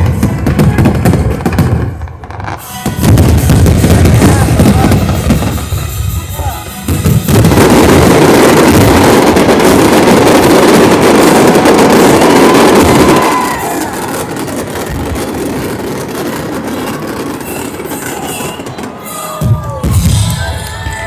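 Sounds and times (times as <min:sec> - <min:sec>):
fireworks bursts: 0:00.0 - 0:21.0.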